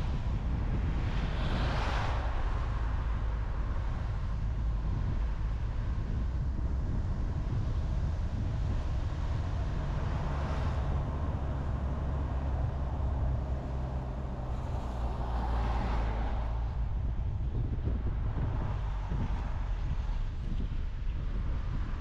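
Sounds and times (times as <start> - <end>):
engine and tyre rumble: 0.0 - 22.0
passing vehicle whoosh: 0.0 - 22.0
wind noise: 0.0 - 22.0.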